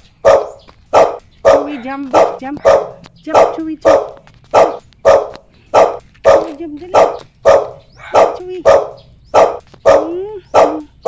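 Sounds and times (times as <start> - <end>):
dog barking: 0.2 - 11.0.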